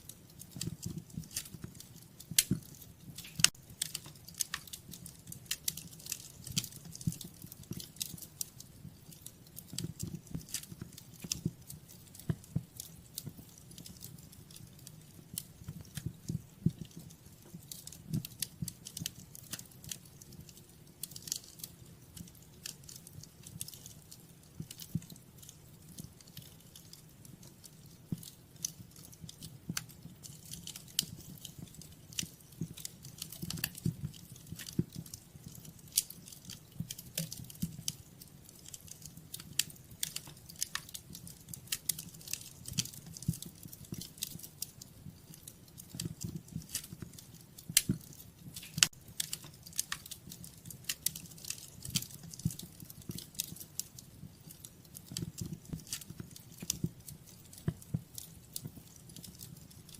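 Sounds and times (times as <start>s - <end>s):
low rumble of flames: 0.0s - 59.9s
sharp pops and snaps of fire: 0.0s - 59.9s
wood fire crackling: 0.0s - 59.9s.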